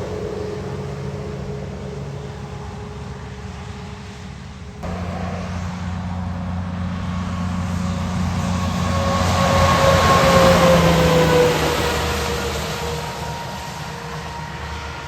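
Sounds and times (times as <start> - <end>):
heavy truck diesel engines: 0.0 - 15.0.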